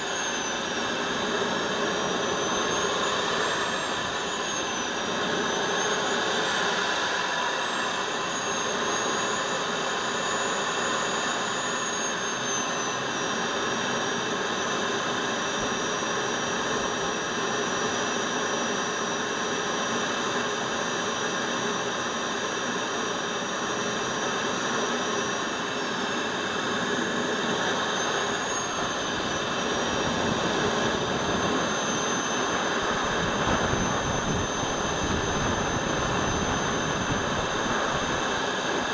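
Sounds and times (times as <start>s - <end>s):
model jet turbine whine: 0.0s - 38.9s.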